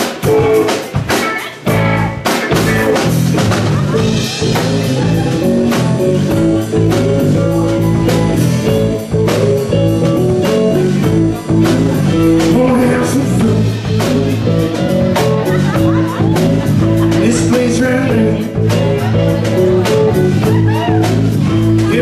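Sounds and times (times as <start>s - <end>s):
blues-rock guitar: 0.0s - 22.0s
steady drum beat: 0.0s - 22.0s.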